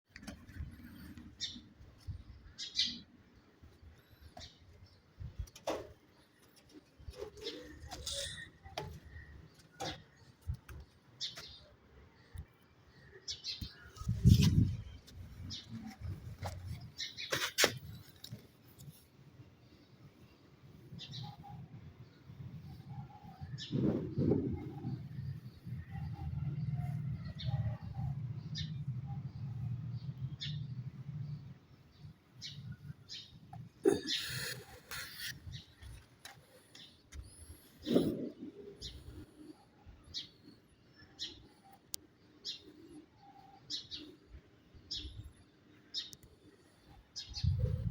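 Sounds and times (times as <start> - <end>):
birds chirping: 0.2 - 47.9.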